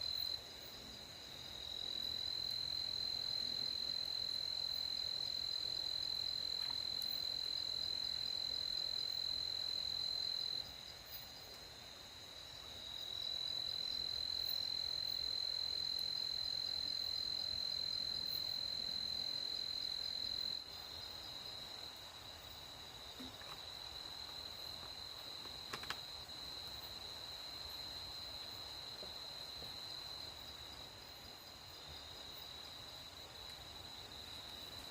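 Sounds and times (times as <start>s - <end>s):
crickets trilling: 1.3s - 11.4s, 12.1s - 34.9s.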